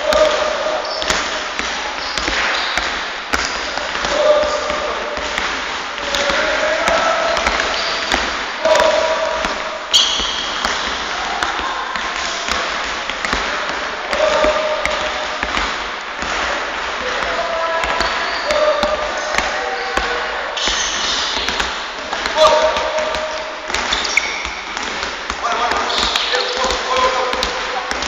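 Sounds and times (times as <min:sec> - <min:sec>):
basketballs bouncing on hardwood: 0:00.0 - 0:28.0.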